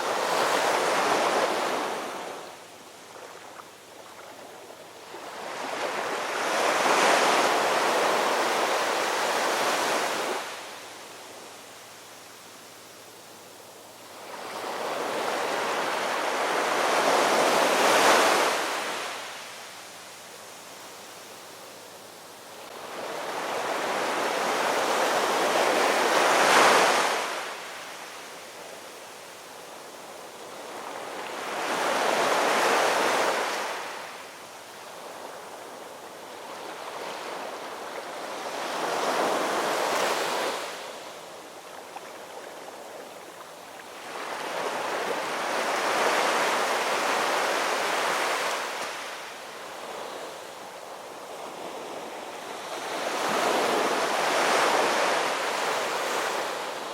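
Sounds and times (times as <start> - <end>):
ocean waves breaking on shore: 0.0 - 11.4, 14.0 - 19.8, 22.5 - 56.9.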